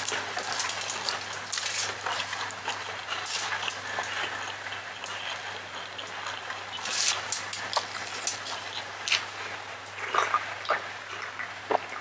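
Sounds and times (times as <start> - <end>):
low steady hum: 0.0 - 12.0
wet chewing: 0.0 - 12.0.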